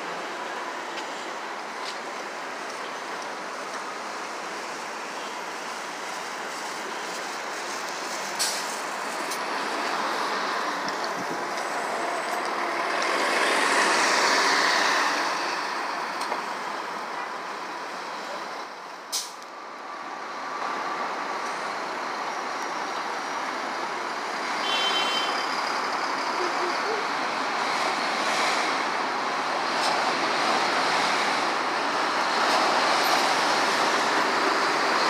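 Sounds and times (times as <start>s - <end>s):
bus running past: 0.0s - 35.0s
city street traffic: 0.0s - 35.0s.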